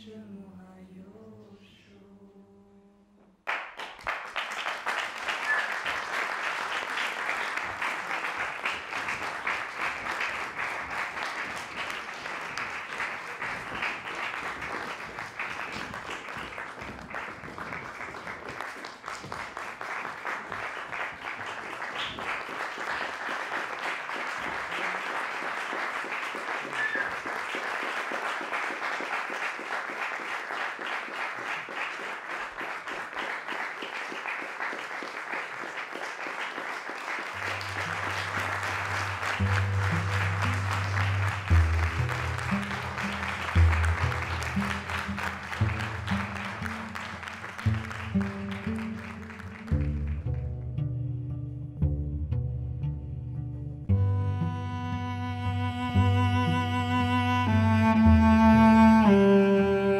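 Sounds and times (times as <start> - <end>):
audience applauding: 3.4 - 50.5, 55.2 - 59.9.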